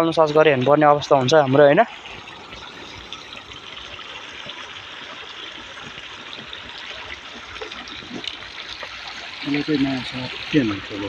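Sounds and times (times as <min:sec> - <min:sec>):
river water trickling: 0:00.0 - 0:11.0.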